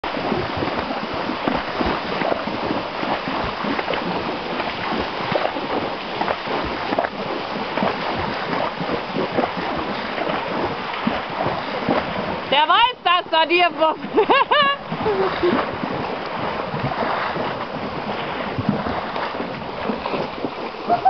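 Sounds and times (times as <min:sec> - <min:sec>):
hooves splashing water: 0:00.0 - 0:21.0.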